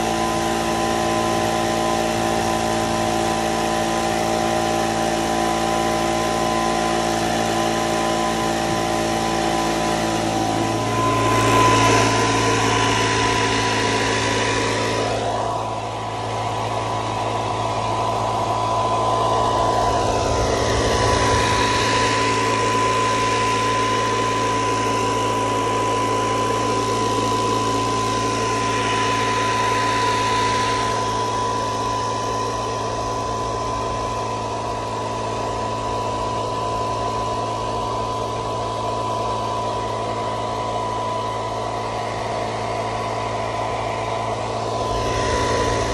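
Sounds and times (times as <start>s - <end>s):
air blower rush: 0.0s - 45.9s
electric cart hum with whine: 0.0s - 45.9s.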